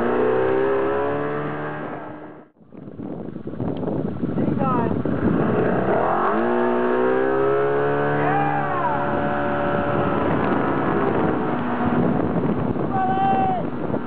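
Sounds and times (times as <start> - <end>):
boat engine revving: 0.0 - 2.5, 5.0 - 14.0.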